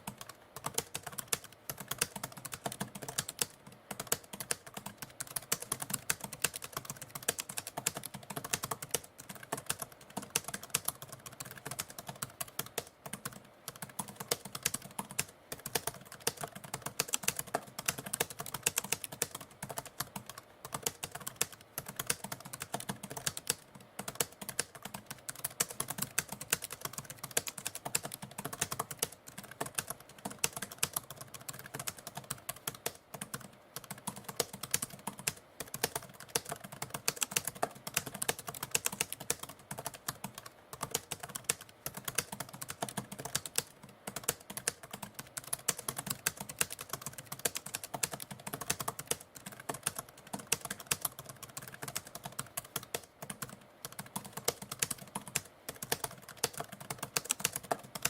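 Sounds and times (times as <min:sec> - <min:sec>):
manual typewriter typing: 0:00.0 - 0:58.0.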